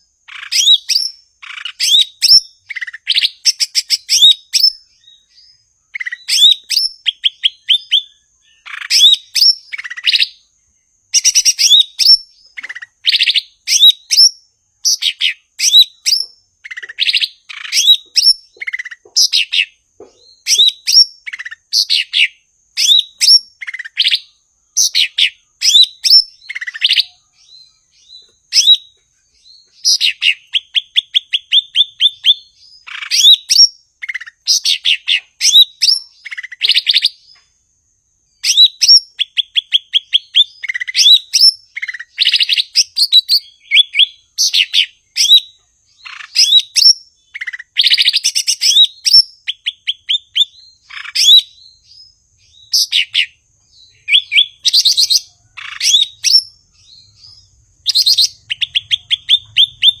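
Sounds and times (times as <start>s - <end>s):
bird singing whistled notes: 0.0s - 60.0s.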